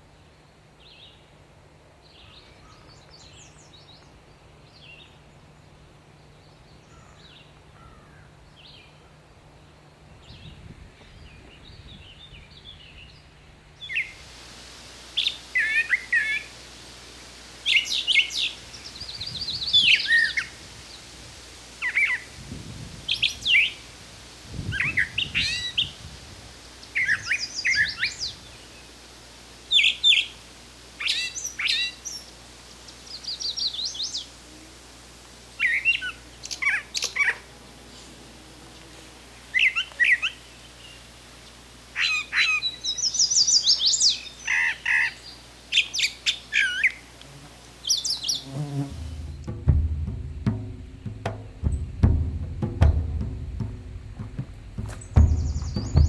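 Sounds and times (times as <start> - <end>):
songbird chirping: 2.0 - 14.2, 17.2 - 21.2, 26.8 - 30.4, 31.0 - 56.0.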